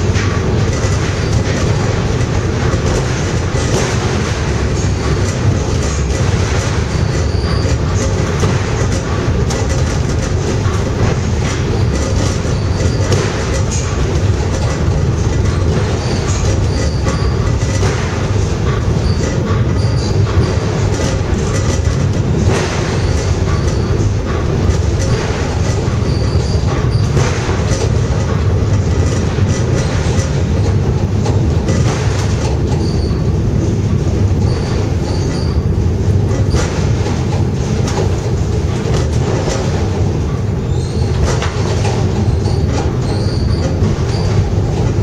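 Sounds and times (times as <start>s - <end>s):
clicks over rail joints: 0.0s - 45.0s
funicular wheels rumbling: 0.0s - 45.0s.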